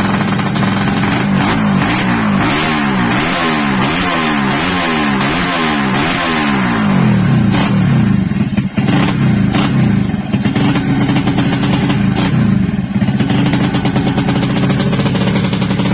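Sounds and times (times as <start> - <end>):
motorcycle engine at high revs: 0.0 - 15.9.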